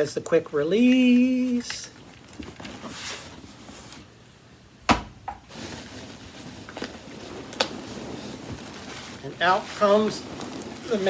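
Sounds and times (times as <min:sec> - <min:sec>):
packaging rustling: 0:00.2 - 0:04.2, 0:05.5 - 0:11.0.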